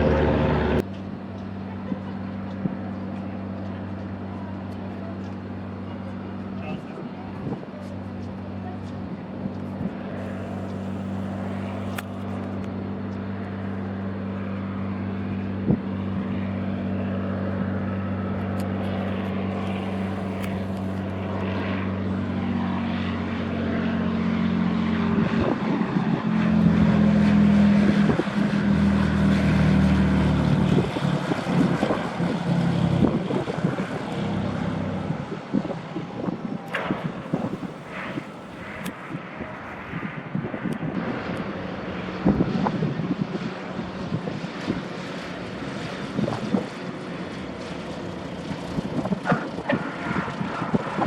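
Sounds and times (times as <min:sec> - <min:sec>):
propeller airplane passing: 0:00.0 - 0:51.0.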